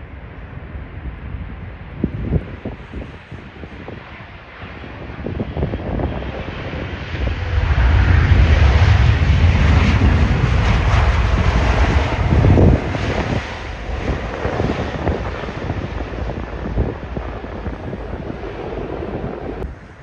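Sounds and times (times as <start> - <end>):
wind buffeting microphone: 0.0 - 20.0
aircraft noise rushing: 0.1 - 20.0.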